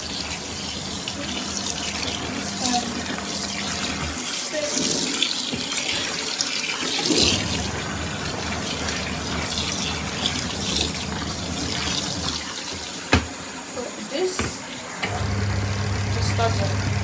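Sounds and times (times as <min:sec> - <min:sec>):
running splashing water: 0:00.0 - 0:17.0.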